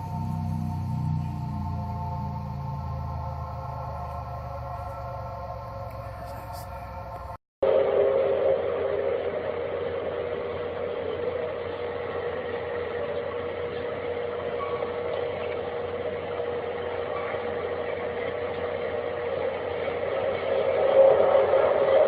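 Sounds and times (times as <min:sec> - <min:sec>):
steady droning hum: 0:00.0 - 0:22.0.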